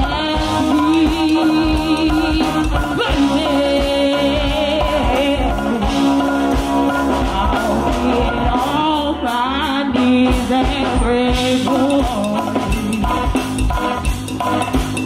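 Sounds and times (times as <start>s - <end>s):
person singing: 0.0s - 13.6s
drum kit beat: 0.0s - 15.0s
live band music: 0.0s - 15.0s.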